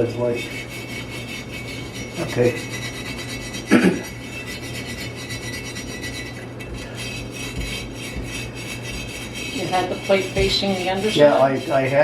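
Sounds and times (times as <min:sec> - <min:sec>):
scrubbing on cast iron kettle: 0:00.0 - 0:12.0.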